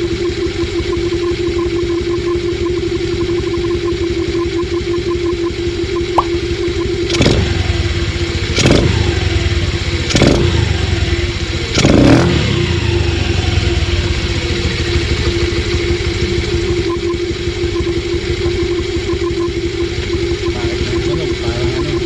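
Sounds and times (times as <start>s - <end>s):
scooter engine idling and revving: 0.0s - 22.0s.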